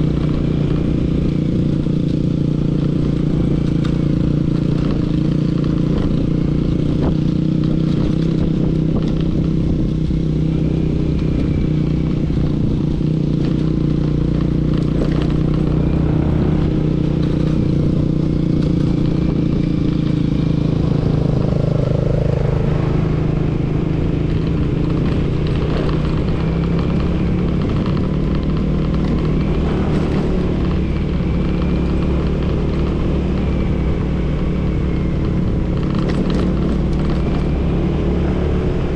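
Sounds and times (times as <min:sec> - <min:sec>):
road noise: 0:00.0 - 0:38.9
vehicle engine droning: 0:00.0 - 0:38.9.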